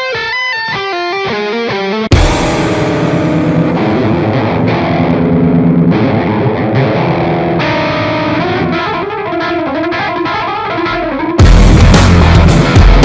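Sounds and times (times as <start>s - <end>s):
distorted electric guitar melody: 0.0s - 13.0s.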